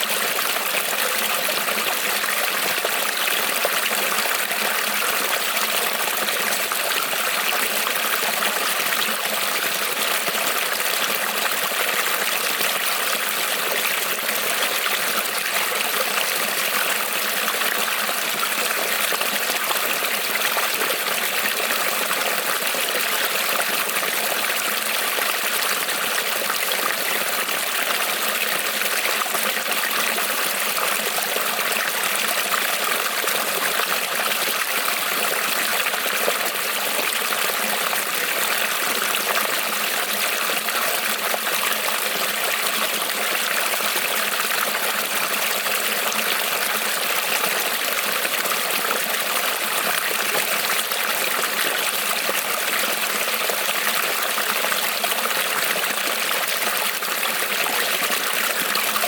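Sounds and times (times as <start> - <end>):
creek water trickling over stones: 0.0 - 59.0.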